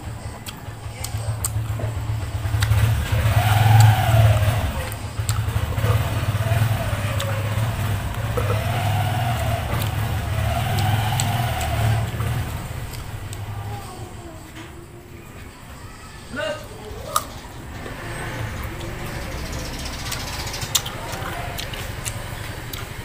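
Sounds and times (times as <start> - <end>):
vehicle engine running: 0.0 - 15.6, 16.9 - 23.0.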